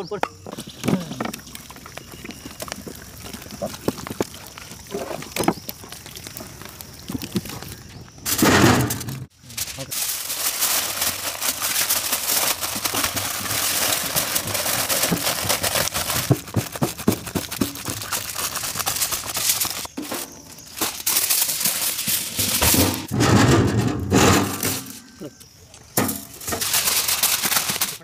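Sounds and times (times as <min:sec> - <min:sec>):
aluminium foil crinkling: 0:00.6 - 0:23.4, 0:25.9 - 0:28.0
palms thumping on foil: 0:03.6 - 0:25.0, 0:26.0 - 0:28.0.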